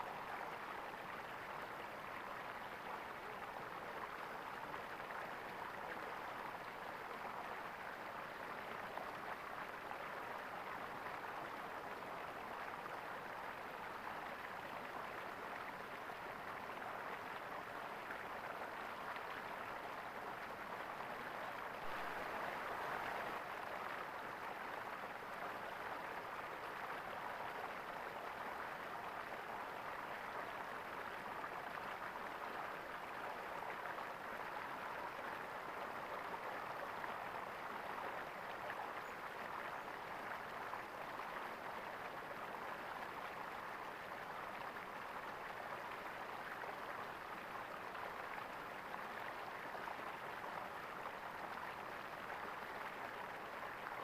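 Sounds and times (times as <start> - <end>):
stream gurgling: 0.0 - 54.0.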